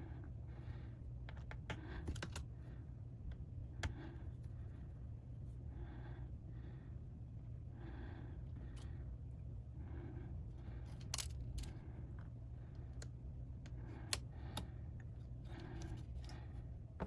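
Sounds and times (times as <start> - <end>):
low steady hum: 0.0 - 17.0
soft breathing: 0.0 - 17.0.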